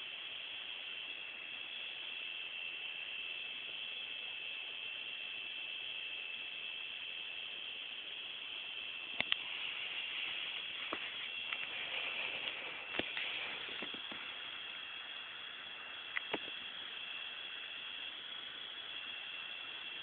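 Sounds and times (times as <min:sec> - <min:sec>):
insects buzzing shrilly: 0:00.0 - 0:20.0.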